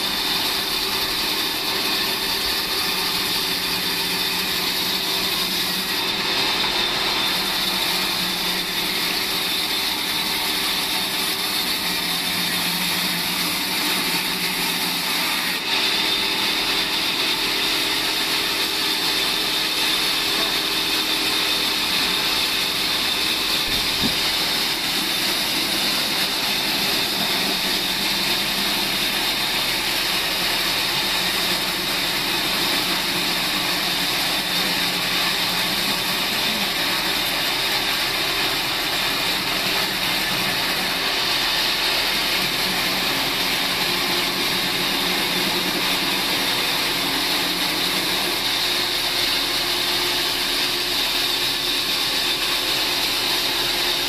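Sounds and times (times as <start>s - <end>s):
band saw cutting timber: 0.0s - 54.0s.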